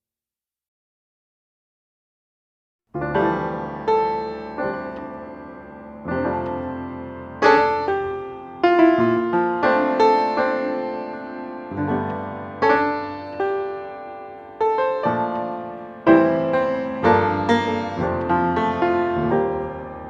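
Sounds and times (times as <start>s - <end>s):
calm solo piano: 3.0s - 20.0s.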